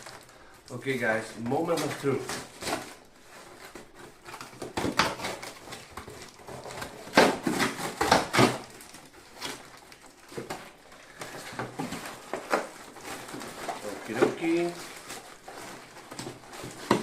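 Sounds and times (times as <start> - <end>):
cardboard rustling and scraping: 0.0 - 17.0.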